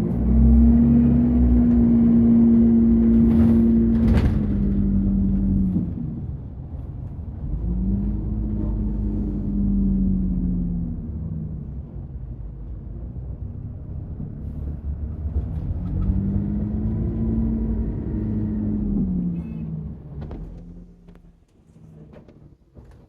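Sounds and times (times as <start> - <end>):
vehicle low rumble: 0.0 - 23.0.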